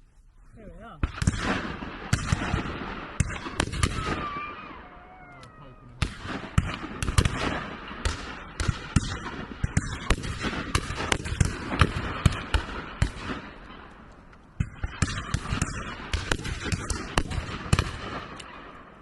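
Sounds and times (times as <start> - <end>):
shotguns firing: 1.0 - 4.9, 6.0 - 19.0.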